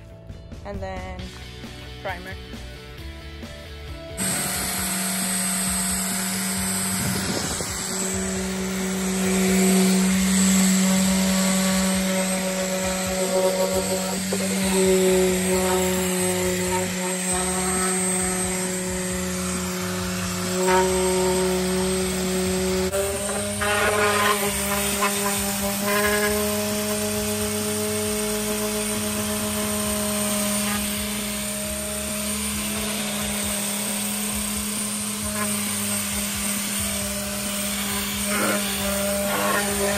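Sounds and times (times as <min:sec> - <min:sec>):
orbital sander on car panel: 0:03.0 - 0:39.9.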